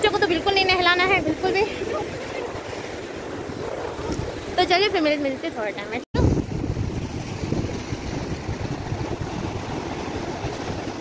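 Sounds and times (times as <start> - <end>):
surf breaking on shore: 0.0 - 11.0
wind buffeting microphone: 0.0 - 11.0.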